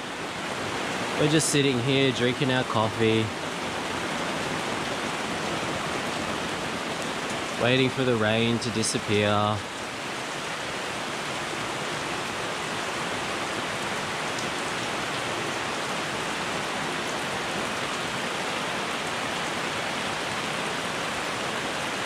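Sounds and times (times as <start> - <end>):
heavy rain on ground and foliage: 0.0 - 22.0.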